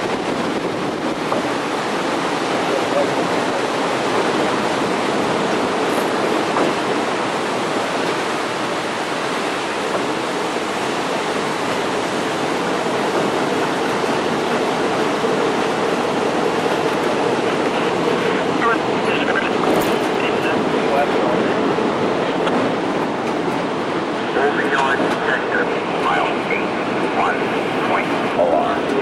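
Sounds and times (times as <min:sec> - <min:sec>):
train rolling along track: 0:00.0 - 0:29.0.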